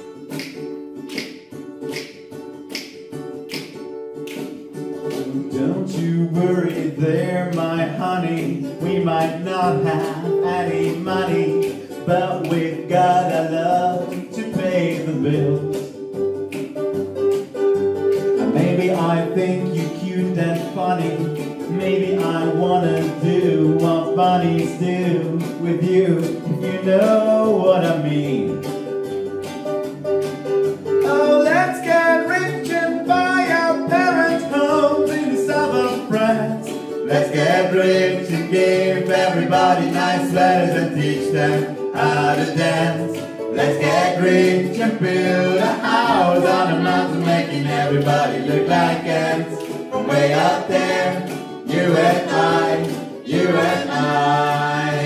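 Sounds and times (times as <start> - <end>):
acoustic guitar strumming: 0.0 - 55.0
hand claps: 0.0 - 55.0
ukulele strumming: 0.0 - 55.0
people singing: 5.2 - 15.8, 18.4 - 28.5, 31.1 - 55.0.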